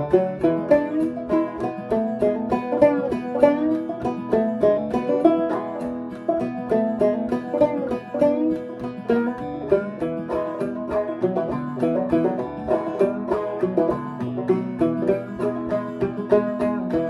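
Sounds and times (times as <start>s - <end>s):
clawhammer banjo playing: 0.0s - 17.0s.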